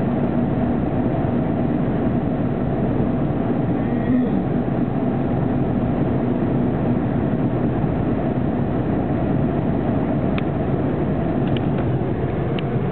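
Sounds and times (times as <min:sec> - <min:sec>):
car road and engine noise: 0:00.0 - 0:12.9.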